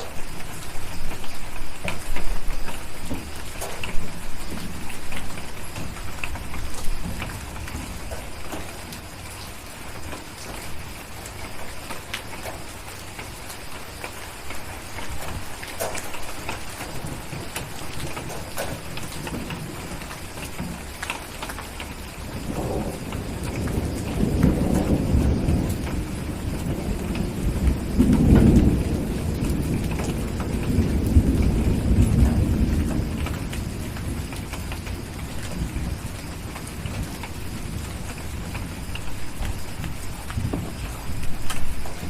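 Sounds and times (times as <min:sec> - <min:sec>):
distant rolling thunder: 0:00.0 - 0:42.0
steady rain: 0:00.0 - 0:42.0.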